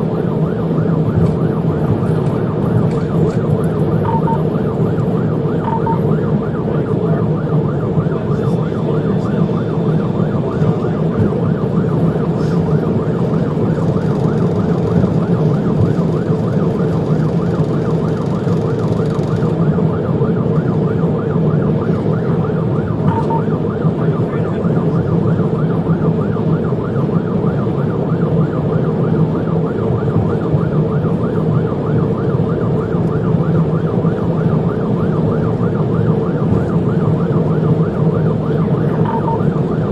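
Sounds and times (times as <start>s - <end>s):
engine and road noise: 0.0s - 39.9s
police siren yelping: 0.0s - 39.9s.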